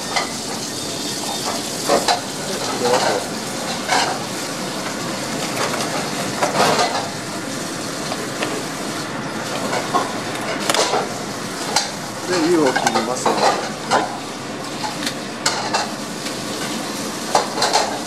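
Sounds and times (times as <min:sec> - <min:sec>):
water boiling: 0:00.0 - 0:18.0.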